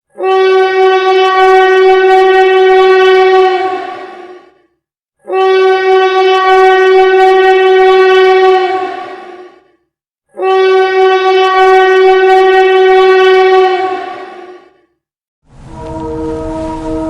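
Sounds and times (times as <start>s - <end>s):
train whistle blasts: 0.1s - 4.6s, 5.2s - 14.8s, 15.6s - 17.0s.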